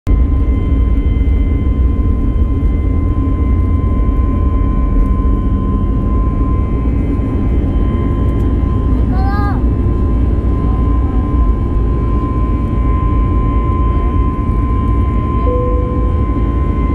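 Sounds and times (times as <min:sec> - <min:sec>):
jet engines roaring at takeoff: 0:00.1 - 0:16.9.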